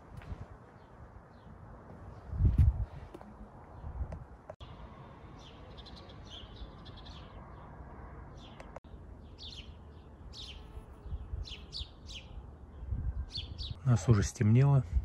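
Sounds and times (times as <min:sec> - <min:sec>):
songbirds chirping: 0:00.0 - 0:14.9.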